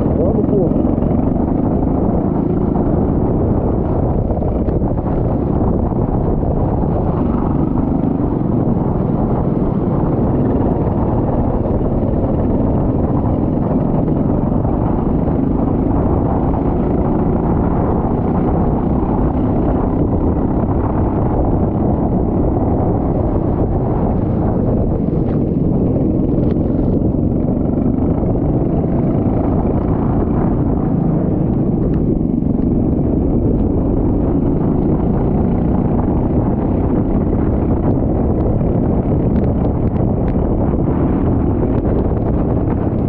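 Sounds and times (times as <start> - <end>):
go-kart engine running: 0.0 - 43.0.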